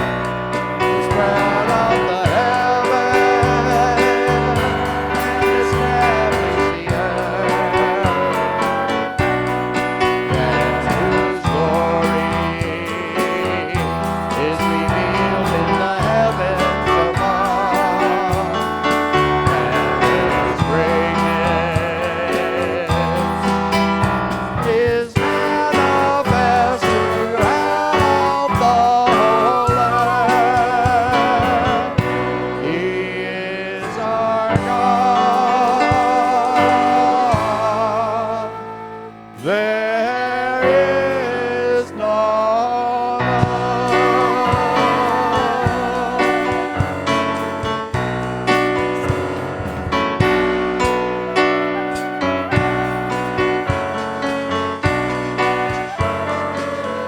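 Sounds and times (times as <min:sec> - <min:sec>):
band playing worship music: 0:00.0 - 0:57.0
person singing: 0:00.0 - 0:57.0.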